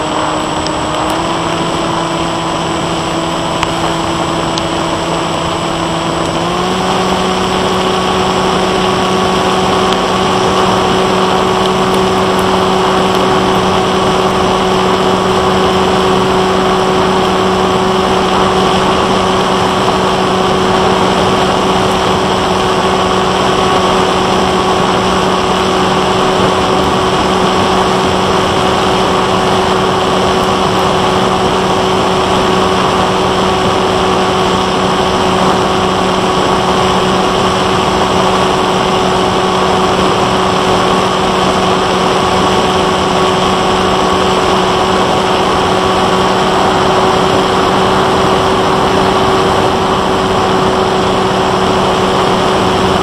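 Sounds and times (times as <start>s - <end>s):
electric motor and propeller whine: 0.0s - 53.0s
rush of air noise: 0.0s - 53.0s.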